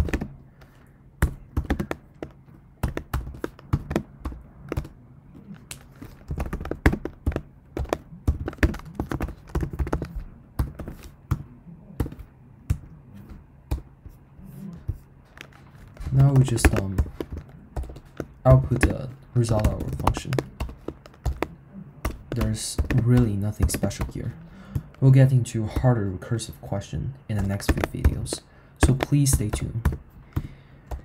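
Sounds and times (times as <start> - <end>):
keyboard typing: 0.0 - 14.0, 14.7 - 25.1, 27.3 - 31.0
faint low hum: 0.0 - 31.0.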